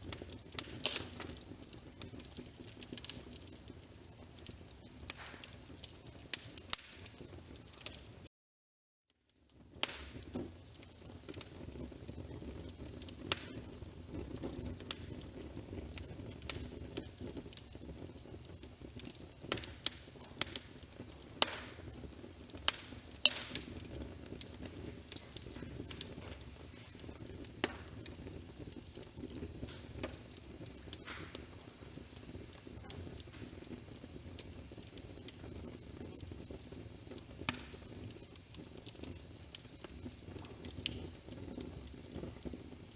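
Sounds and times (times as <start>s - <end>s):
fireplace fire crackling: 0.0s - 8.3s, 9.1s - 42.9s.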